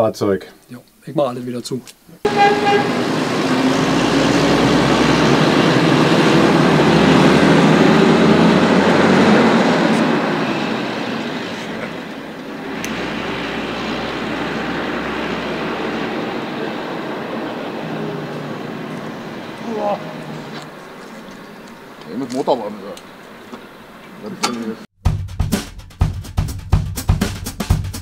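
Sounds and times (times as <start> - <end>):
coach driving past: 2.2 - 24.9
vehicle noise: 2.2 - 24.9.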